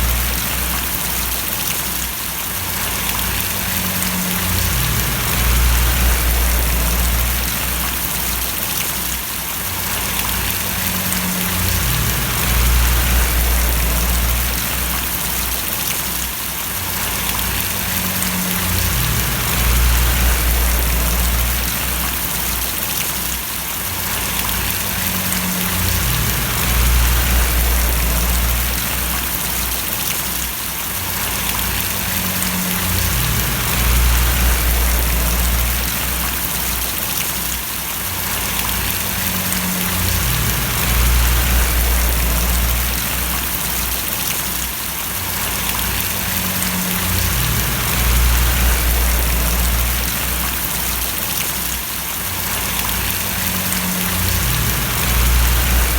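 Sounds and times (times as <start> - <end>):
low rumble: 0.0 - 1.4, 2.8 - 8.4, 9.9 - 15.8, 17.0 - 22.7, 24.3 - 30.0, 31.2 - 37.0, 38.4 - 44.3, 45.4 - 51.2, 52.7 - 55.9
rain splashing: 0.0 - 55.9.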